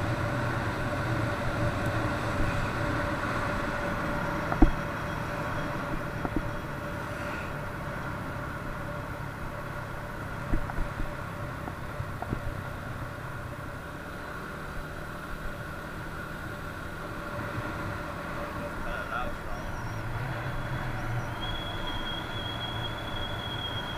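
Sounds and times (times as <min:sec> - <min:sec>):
road and wind noise: 0:00.0 - 0:23.9.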